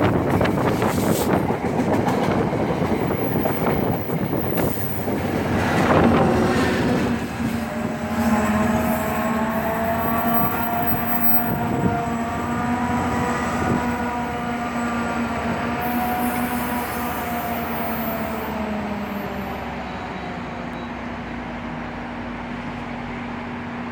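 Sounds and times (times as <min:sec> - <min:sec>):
train running past: 0:00.0 - 0:23.9.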